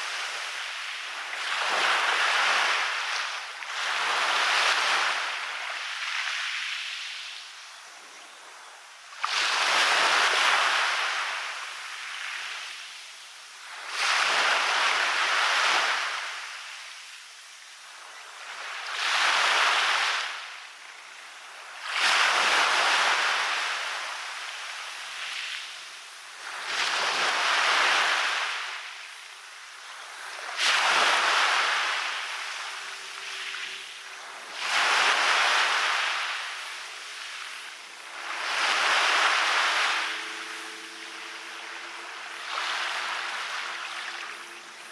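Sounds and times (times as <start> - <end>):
waves breaking on a beach: 0.0 - 44.9.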